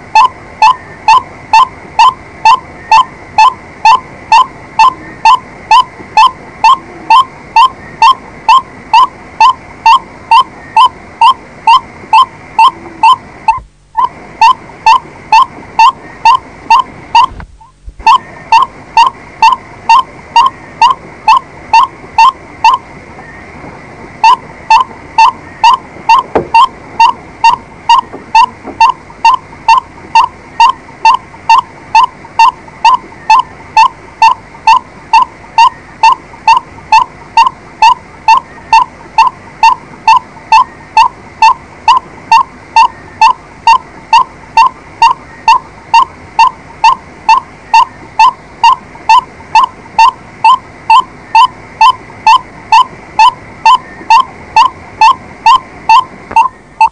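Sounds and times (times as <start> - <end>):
bird calling harsh notes: 0.1 - 23.5, 24.2 - 56.9.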